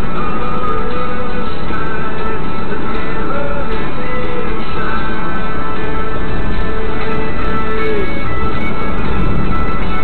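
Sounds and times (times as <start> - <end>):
loud music with held notes: 0.0 - 10.0.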